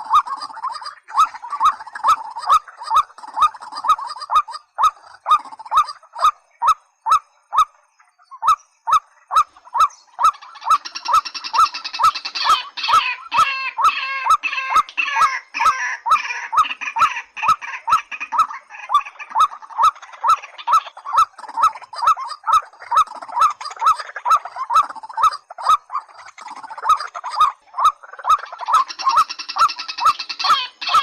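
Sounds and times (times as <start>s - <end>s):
bird clucking notes: 0.0s - 31.0s
harsh chattering bird chorus: 0.0s - 31.0s.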